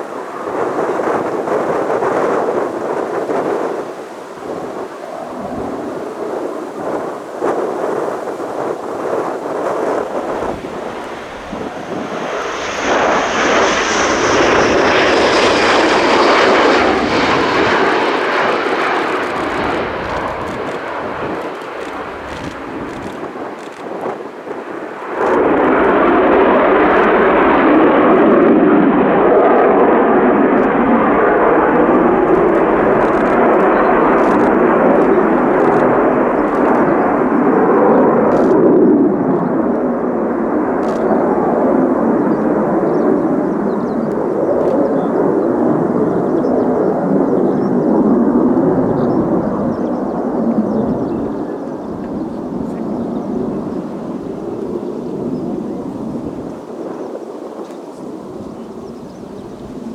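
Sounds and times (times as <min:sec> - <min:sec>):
jet engine roar: 0:00.0 - 0:59.9.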